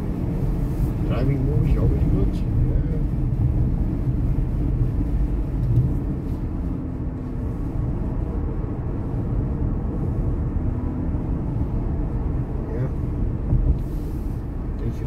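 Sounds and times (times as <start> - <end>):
road and tyre noise inside car: 0.0 - 15.0.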